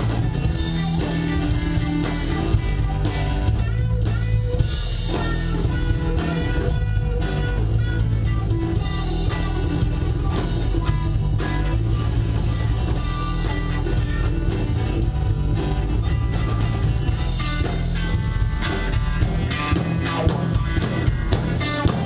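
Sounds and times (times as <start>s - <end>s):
drum kit: 0.0s - 22.0s
electric guitars: 0.0s - 22.0s.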